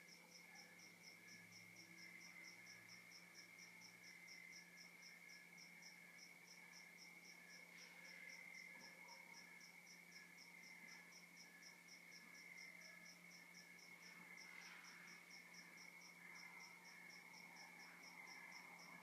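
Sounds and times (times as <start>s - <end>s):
insect chirping low and slow: 0.0s - 19.0s
crickets trilling: 0.1s - 19.0s.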